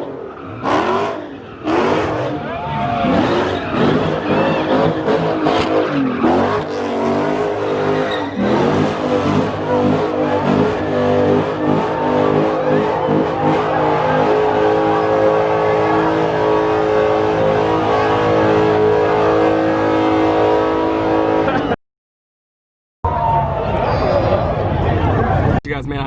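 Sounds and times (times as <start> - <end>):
car engine revving: 0.0 - 21.8.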